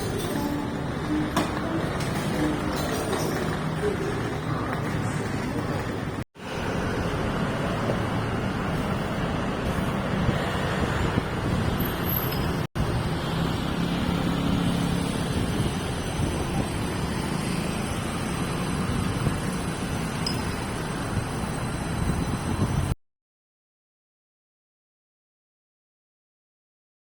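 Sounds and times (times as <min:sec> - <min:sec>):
traffic noise: 0:00.0 - 0:23.0.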